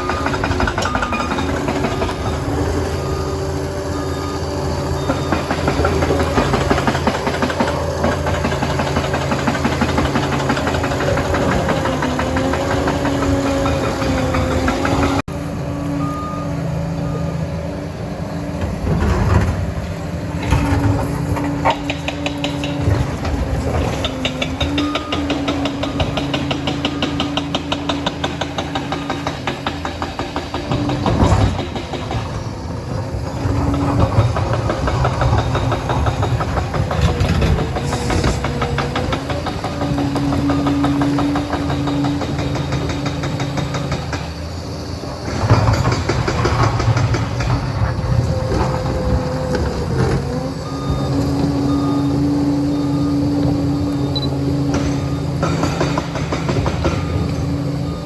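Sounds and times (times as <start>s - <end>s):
steel tracks clattering: 0.0s - 15.2s, 18.7s - 52.2s, 52.8s - 58.0s
diesel engine whine: 0.0s - 58.0s.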